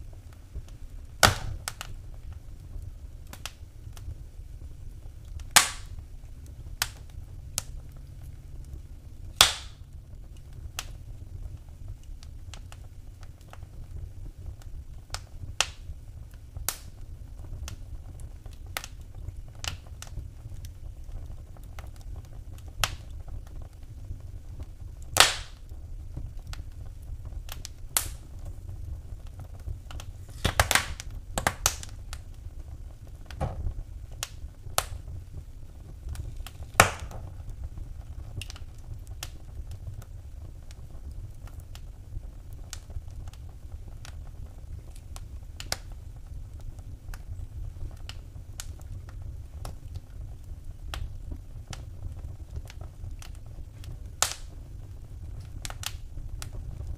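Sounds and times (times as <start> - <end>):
fire crackling pops: 0.0 - 56.9
fire low rumble: 0.0 - 56.9.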